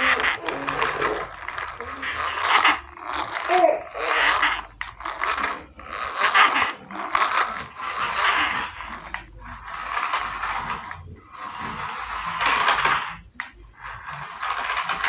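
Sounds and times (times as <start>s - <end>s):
toy car wheels scraping: 0.0s - 15.0s.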